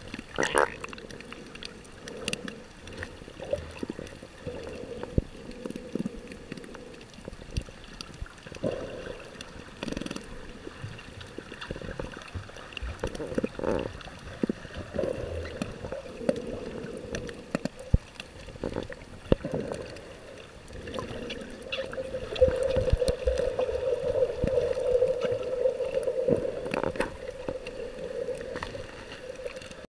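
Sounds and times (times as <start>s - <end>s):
underwater sloshing and gurgling: 0.0s - 29.9s.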